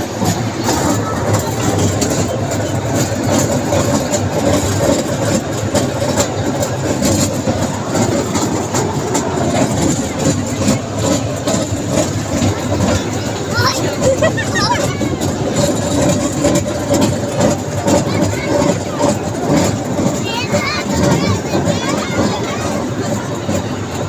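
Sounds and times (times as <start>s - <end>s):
ride train engine: 0.0s - 24.0s
train clatter: 0.0s - 24.0s.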